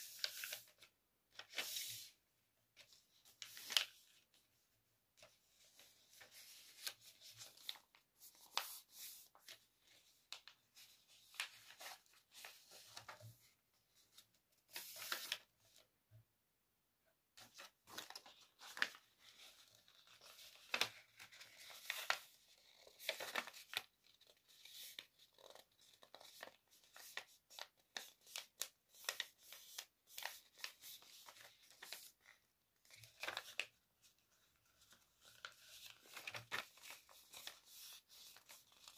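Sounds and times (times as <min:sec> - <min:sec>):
paper folding and crinkling: 0:00.0 - 0:02.2, 0:02.8 - 0:04.6, 0:05.2 - 0:15.9, 0:17.4 - 0:38.9.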